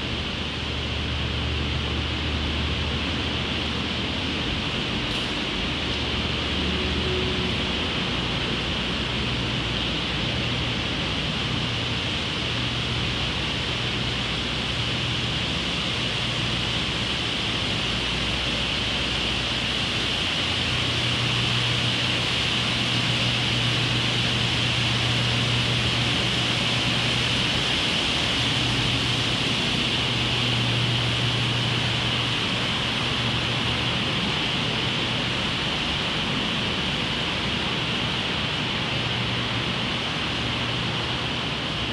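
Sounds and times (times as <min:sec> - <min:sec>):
parking garage hum and hiss: 0:00.0 - 0:41.9.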